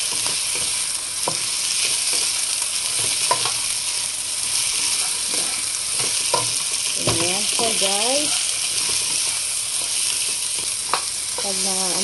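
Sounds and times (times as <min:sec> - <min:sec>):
chicken feet sizzling in oil: 0:00.0 - 0:12.0.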